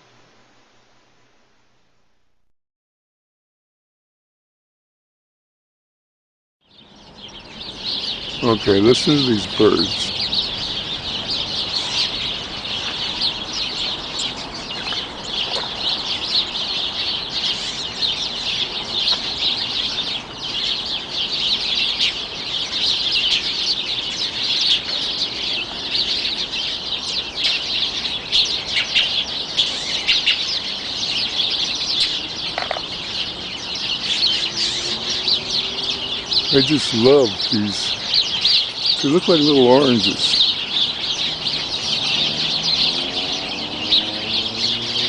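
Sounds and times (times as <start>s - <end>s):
sparrows chirping: 6.6s - 45.0s.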